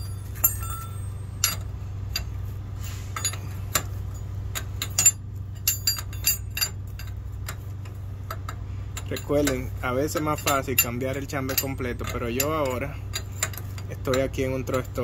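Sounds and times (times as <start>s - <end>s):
wrench clinking on metal: 0.0s - 2.4s, 3.1s - 15.0s
steady low hum: 0.0s - 15.0s.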